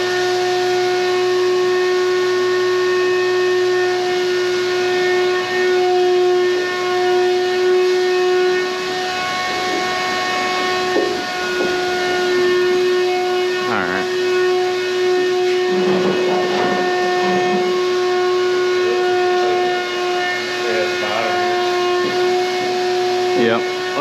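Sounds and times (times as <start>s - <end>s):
heater whistling hum: 0.0s - 24.0s.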